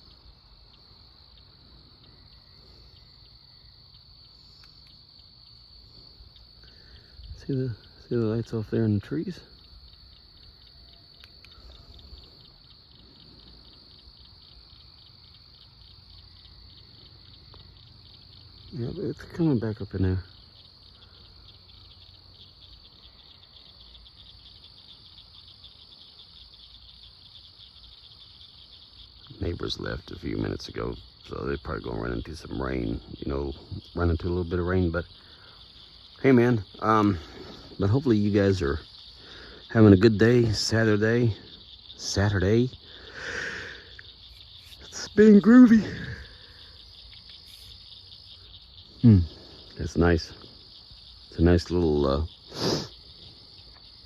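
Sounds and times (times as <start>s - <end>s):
crickets chirping: 0.0s - 54.0s
night insects trilling: 0.0s - 54.0s.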